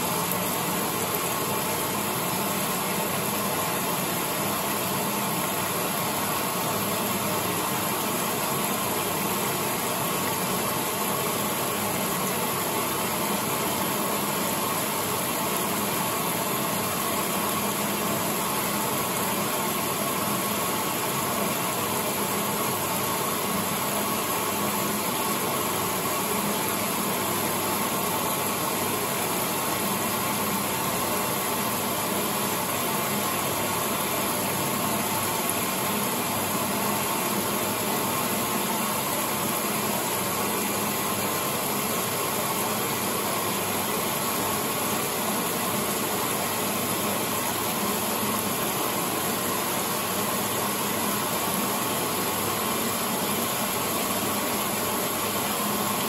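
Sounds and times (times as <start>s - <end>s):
washing machine running: 0.0s - 56.0s.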